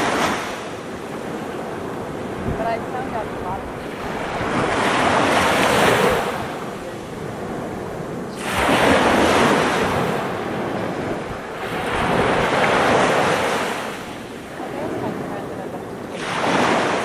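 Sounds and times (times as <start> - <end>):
waves breaking on beach: 0.0 - 17.0.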